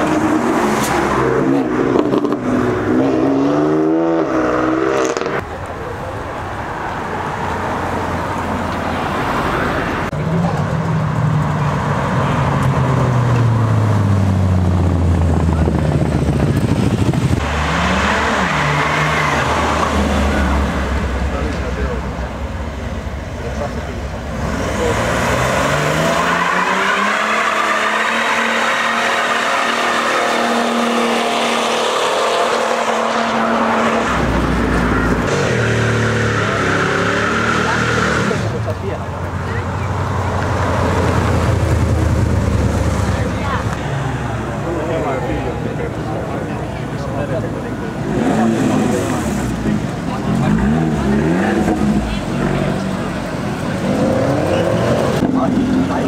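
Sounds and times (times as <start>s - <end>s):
cars driving slowly past: 4.4s - 31.6s, 33.5s - 56.0s.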